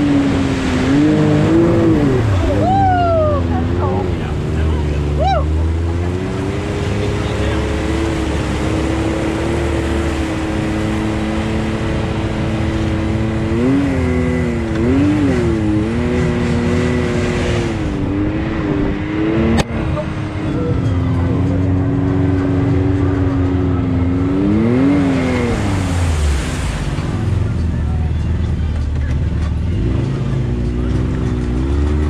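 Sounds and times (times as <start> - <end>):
engine running and revving: 0.0 - 32.0.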